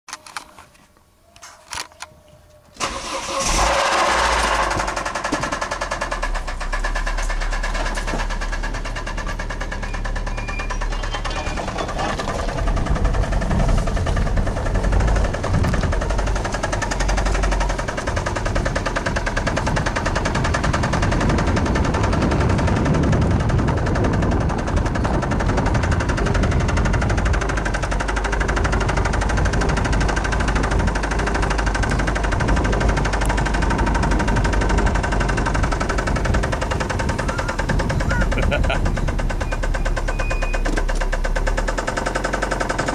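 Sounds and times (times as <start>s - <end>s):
car engine starting and running: 2.8s - 42.9s
engine knocking: 2.8s - 42.9s.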